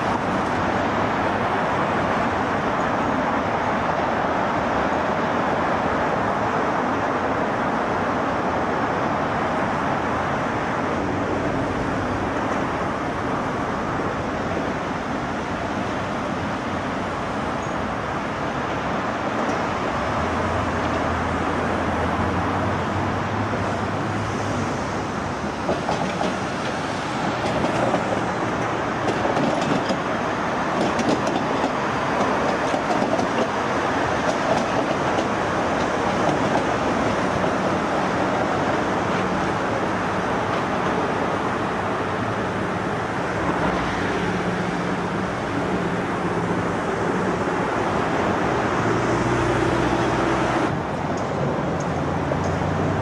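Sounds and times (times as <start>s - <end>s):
road traffic passing: 0.0s - 53.0s
tram wheels clattering on rails: 8.6s - 53.0s.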